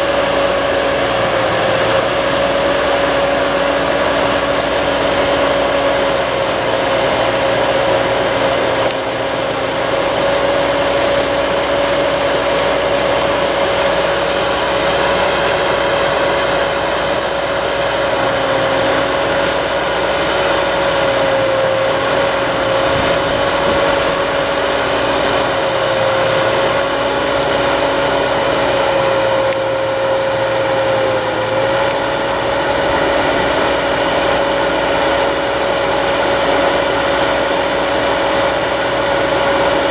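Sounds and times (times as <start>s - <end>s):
steady whine: 0.0s - 39.9s
tractor engine running: 0.0s - 39.9s.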